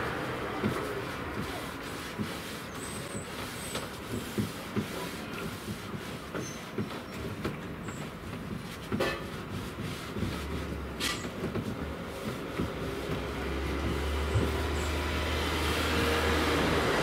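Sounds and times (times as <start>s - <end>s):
paintbrush tapping and rubbing wood: 0.0s - 17.0s.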